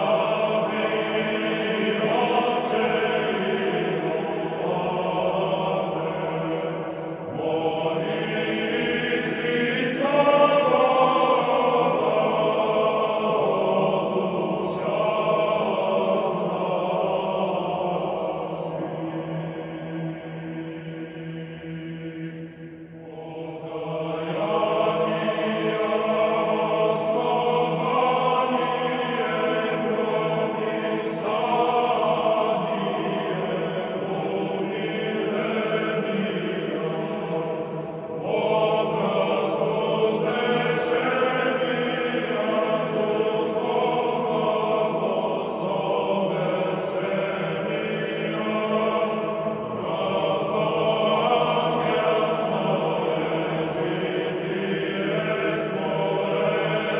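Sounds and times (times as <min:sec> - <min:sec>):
choir chanting long notes: 0:00.0 - 0:56.9.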